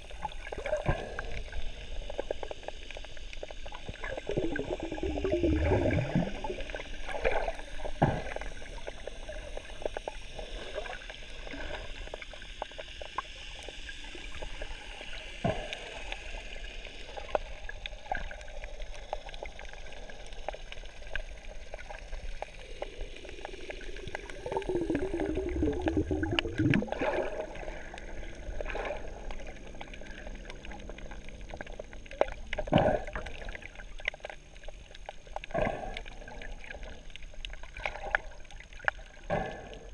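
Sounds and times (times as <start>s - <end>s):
faint steady hiss: 0.0s - 39.9s
underwater bubbles gurgling: 0.0s - 39.9s.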